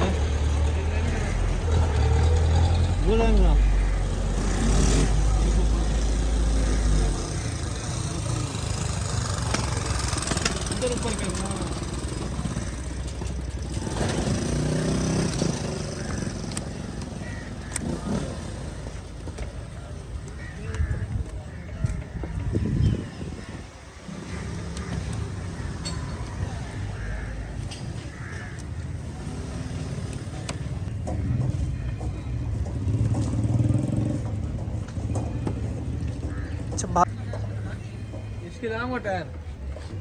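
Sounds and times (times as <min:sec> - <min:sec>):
low traffic rumble: 0:00.0 - 0:40.0
motor vehicle engine: 0:00.0 - 0:40.0.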